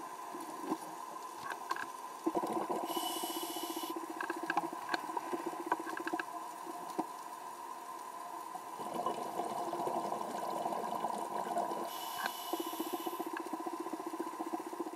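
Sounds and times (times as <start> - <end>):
underwater hum: 0.0 - 14.9.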